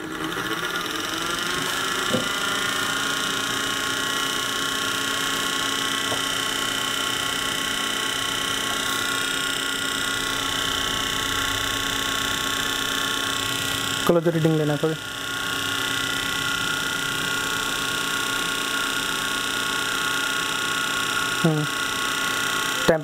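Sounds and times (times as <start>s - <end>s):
cooling fans humming: 0.0s - 23.0s.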